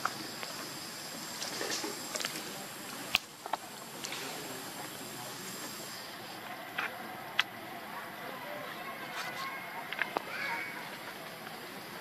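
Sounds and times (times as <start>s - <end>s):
forest background hiss: 0.0s - 12.0s.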